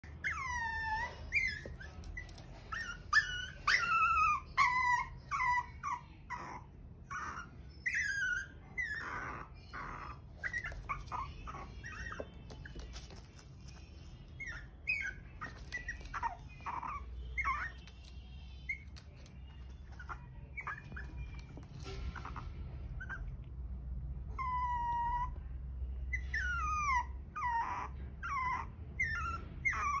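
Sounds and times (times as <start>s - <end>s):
puppy whining: 0.0s - 23.6s, 24.2s - 30.0s.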